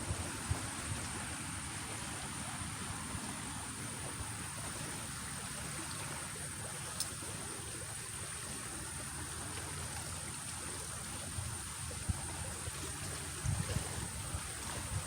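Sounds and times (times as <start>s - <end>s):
moving water: 0.0s - 15.0s
wind: 0.0s - 15.0s.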